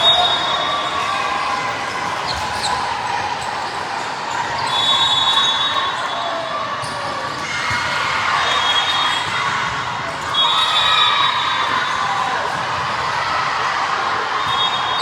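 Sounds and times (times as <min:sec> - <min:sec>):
sneaker squeaks: 0:00.0 - 0:12.3, 0:14.4 - 0:15.0
spectators chattering: 0:00.0 - 0:15.0.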